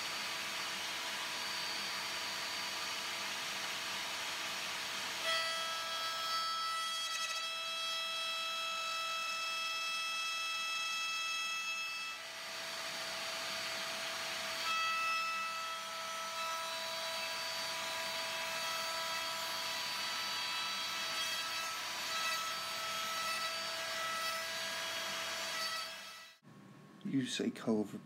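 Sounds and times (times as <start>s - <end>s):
router cutting wood: 0.0s - 26.4s.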